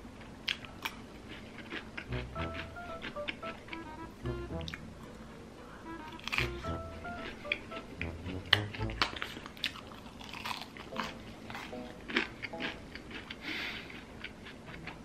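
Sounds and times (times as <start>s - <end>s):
chewing crunchy food: 0.2s - 3.9s, 6.0s - 15.0s.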